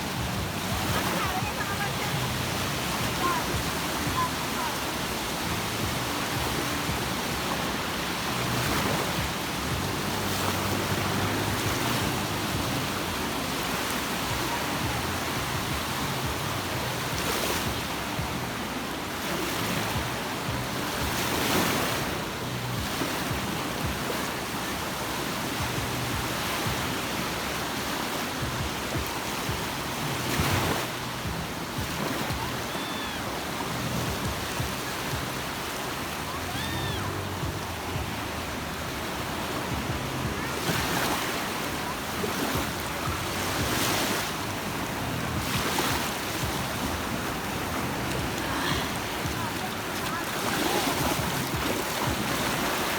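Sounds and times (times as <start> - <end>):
sea waves breaking on shore: 0.0 - 52.9.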